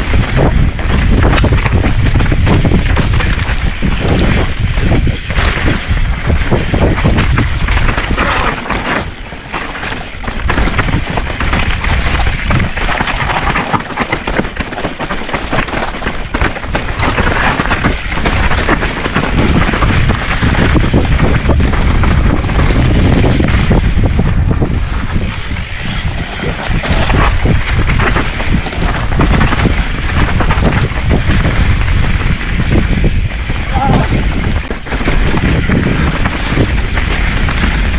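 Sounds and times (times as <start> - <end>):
bike rattling over rocks: 0.0 - 37.9
tyre noise on dirt: 0.0 - 37.9
wind buffeting microphone: 0.0 - 37.9.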